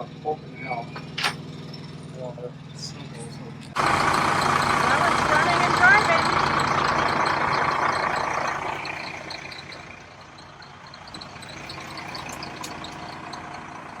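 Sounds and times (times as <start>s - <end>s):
motorhome engine running: 0.0s - 14.0s.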